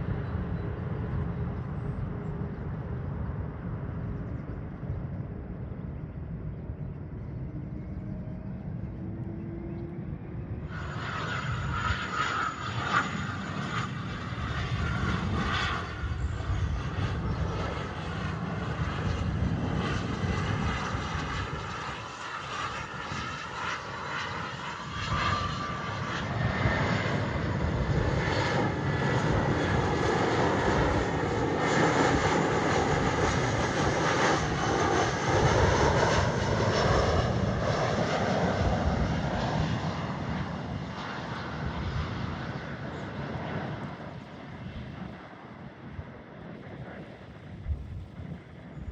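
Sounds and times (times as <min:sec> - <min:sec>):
faint engine whine: 0:00.0 - 0:48.9
jet engines rumbling: 0:00.0 - 0:48.9.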